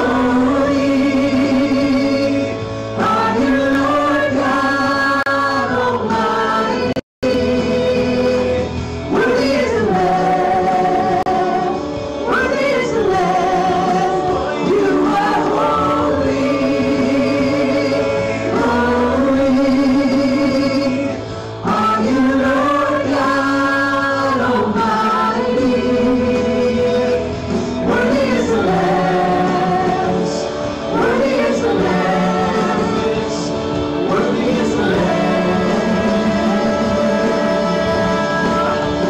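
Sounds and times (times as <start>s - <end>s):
group singing gospel through pa: 0.0s - 39.0s.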